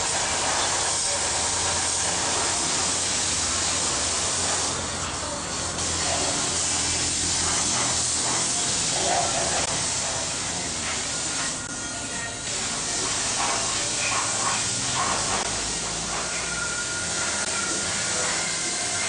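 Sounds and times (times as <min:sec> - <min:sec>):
paint spray gun hissing: 0:00.0 - 0:11.6, 0:12.4 - 0:19.0.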